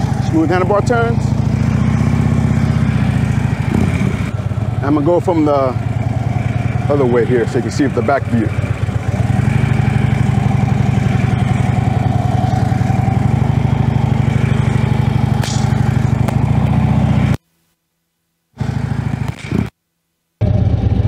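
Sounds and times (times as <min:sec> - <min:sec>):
motorcycle engine running: 0:00.0 - 0:17.4, 0:18.6 - 0:19.8, 0:20.4 - 0:21.0.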